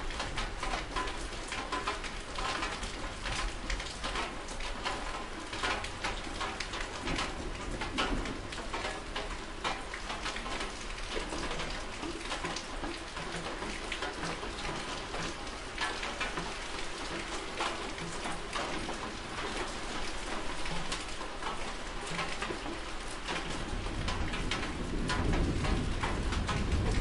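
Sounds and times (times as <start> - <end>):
raindrops pattering on a surface: 0.0 - 27.0
steady rain falling: 0.0 - 27.0.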